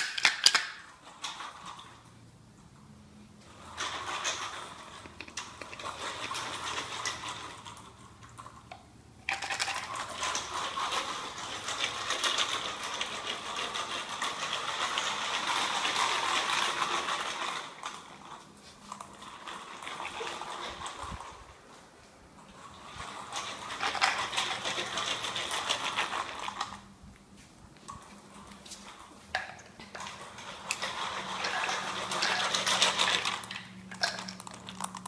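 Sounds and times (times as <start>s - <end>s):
treats rattling in shaken bottle: 3.5s - 8.5s, 9.2s - 21.5s, 22.5s - 26.9s, 28.2s - 35.0s.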